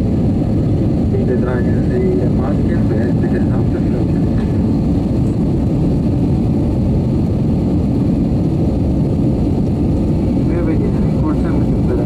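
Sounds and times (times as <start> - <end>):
jet engines roaring in cabin: 0.0 - 12.0
rushing air: 0.0 - 12.0.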